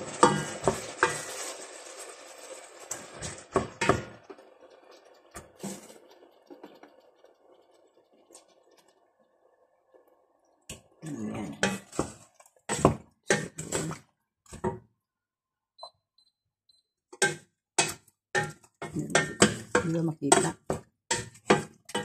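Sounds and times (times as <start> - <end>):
wooden spoon stirring in metal pot: 0.0 - 9.0, 10.7 - 14.9, 17.2 - 22.0.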